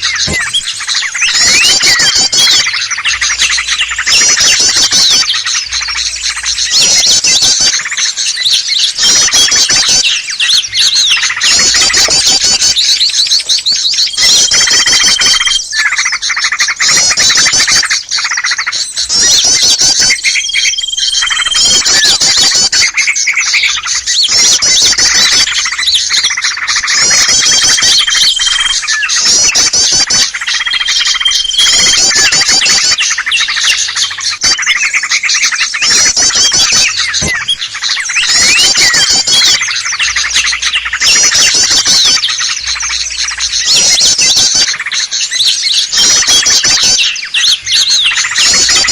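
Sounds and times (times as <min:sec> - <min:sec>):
small birds chirping and trilling: 0:00.0 - 0:48.9.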